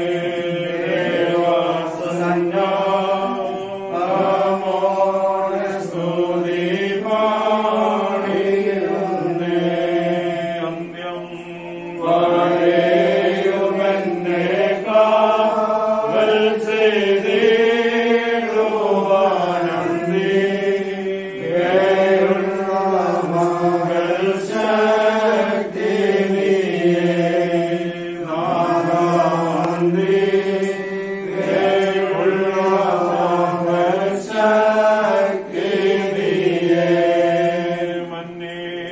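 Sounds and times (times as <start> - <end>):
voices singing a hymn: 0.0 - 38.9.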